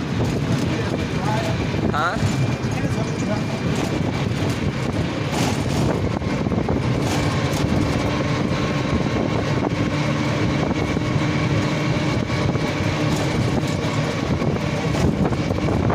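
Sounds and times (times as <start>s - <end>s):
vehicle engine droning: 0.0s - 15.9s.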